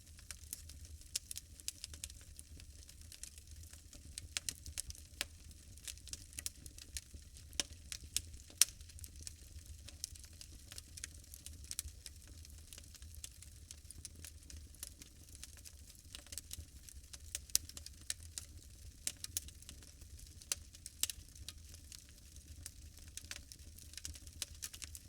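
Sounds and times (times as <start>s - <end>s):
logs crackling in a fireplace: 0.0s - 25.0s.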